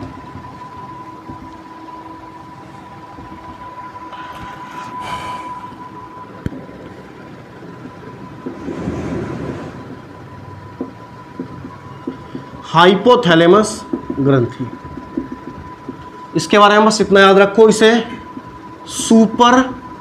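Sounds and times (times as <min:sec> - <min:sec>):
steady thin whine: 0:00.0 - 0:20.0.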